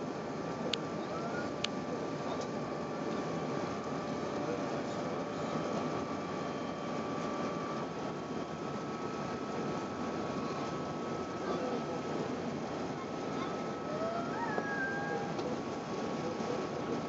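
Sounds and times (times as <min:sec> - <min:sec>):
airliner cabin engine rush: 0:00.0 - 0:17.0
faint steady whine: 0:00.0 - 0:17.0.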